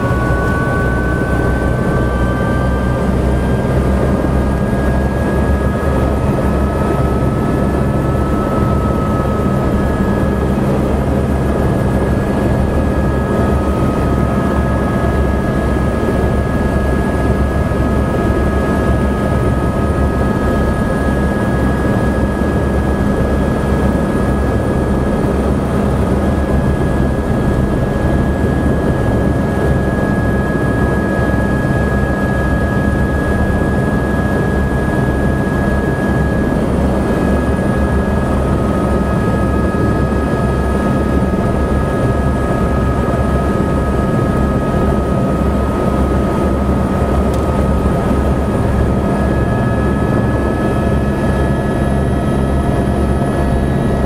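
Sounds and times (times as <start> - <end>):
helicopter rotor throb: 0.0 - 54.0
high turbine whine: 0.0 - 54.0.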